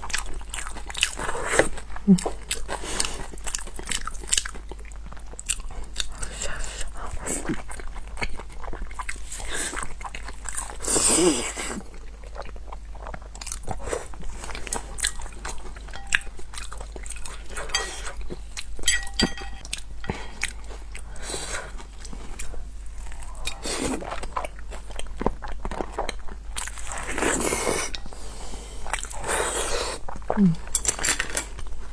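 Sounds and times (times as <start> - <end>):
chewing crunchy food: 0.0 - 31.9.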